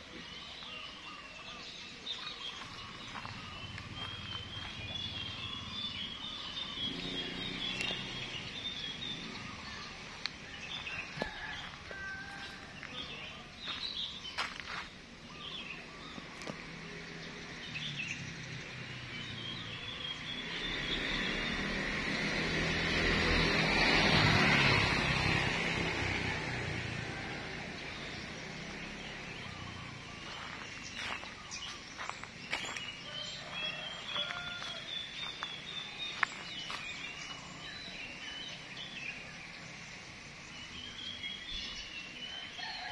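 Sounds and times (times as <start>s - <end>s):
birds chirping and trilling: 0.0s - 42.9s.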